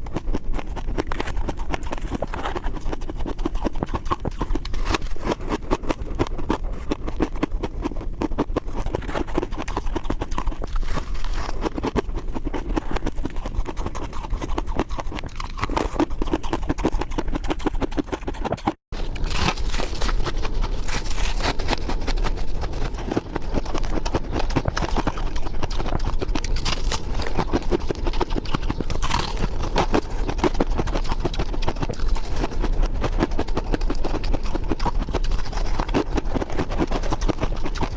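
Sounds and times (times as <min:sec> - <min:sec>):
ice crunching while chewed: 0:00.0 - 0:37.9.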